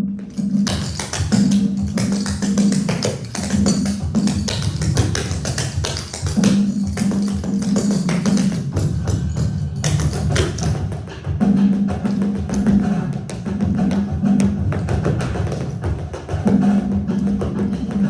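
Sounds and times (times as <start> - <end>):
percussive music with drum hits: 0.0 - 18.0.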